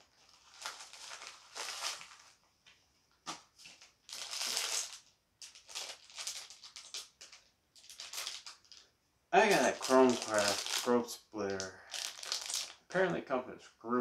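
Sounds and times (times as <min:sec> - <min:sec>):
plastic packaging crinkling: 0:00.0 - 0:02.4, 0:03.5 - 0:13.0.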